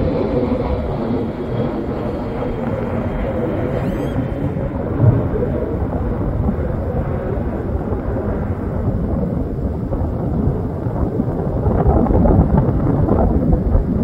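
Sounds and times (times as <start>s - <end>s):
fighter jet engine rumble: 0.0s - 14.0s.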